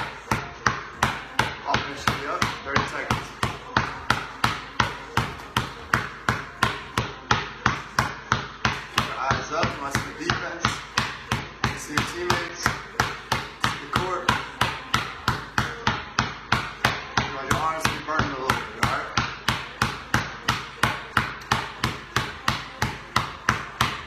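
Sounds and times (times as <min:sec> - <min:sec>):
basketball bouncing on concrete: 0:00.0 - 0:24.0.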